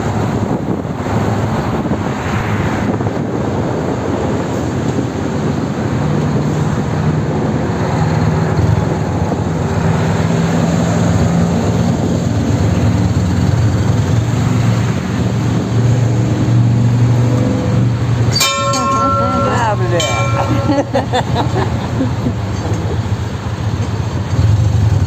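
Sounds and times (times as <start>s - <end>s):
wind noise: 0.0s - 25.0s.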